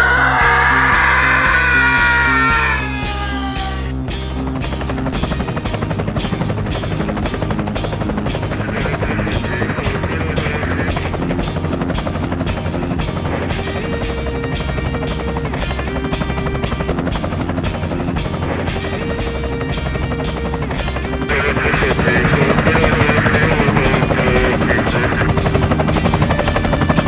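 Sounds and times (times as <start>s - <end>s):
background music: 0.0s - 27.0s
helicopter rotor chopping: 0.0s - 27.0s.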